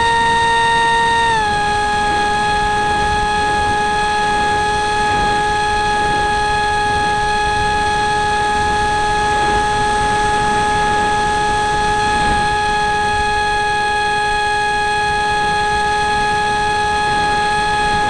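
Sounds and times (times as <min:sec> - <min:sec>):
electric motor and propeller whine: 0:00.0 - 0:18.0.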